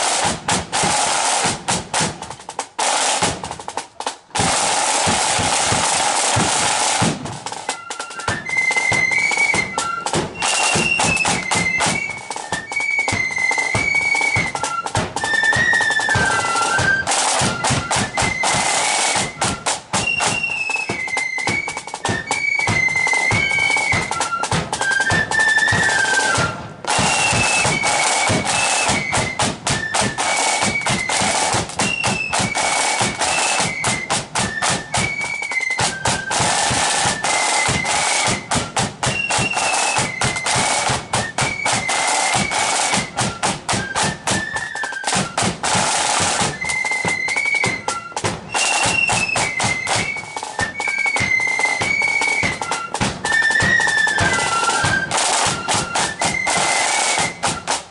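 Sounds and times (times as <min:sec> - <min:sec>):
side drums rattling: 0:00.0 - 0:57.9
flutes playing high tune: 0:04.4 - 0:57.9.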